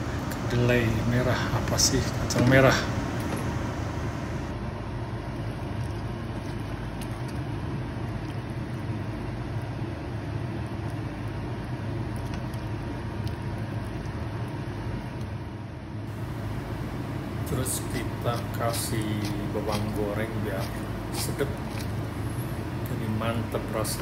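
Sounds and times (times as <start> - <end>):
low rumbling hum: 0.0 - 24.0.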